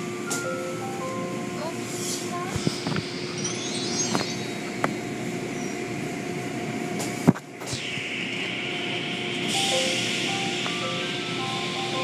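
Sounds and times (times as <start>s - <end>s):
faint machine hum: 0.0s - 12.0s.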